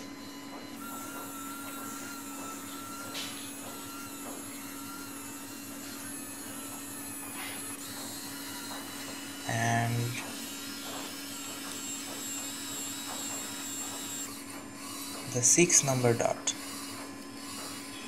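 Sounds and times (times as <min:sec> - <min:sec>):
small motor whirring with ticks: 0:00.0 - 0:18.0
thin high whine: 0:00.0 - 0:18.0.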